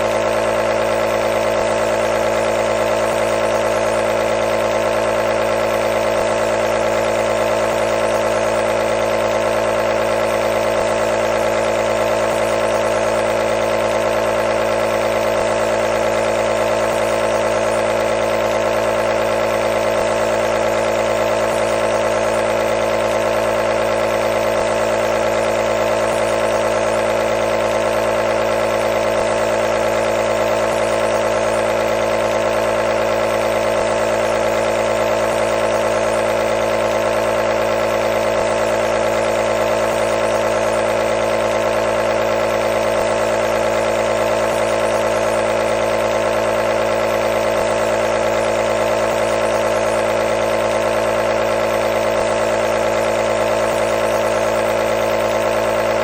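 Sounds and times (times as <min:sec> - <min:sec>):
nebulizer compressor buzzing hum: 0:00.0 - 0:56.0.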